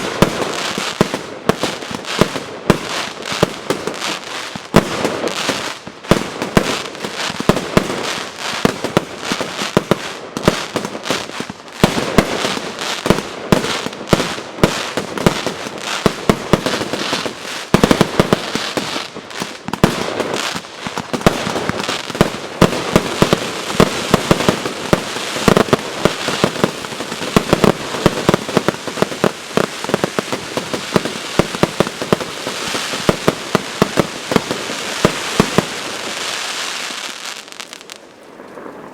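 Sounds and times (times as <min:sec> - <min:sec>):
fireworks crackle and bangs: 0:00.0 - 0:38.9.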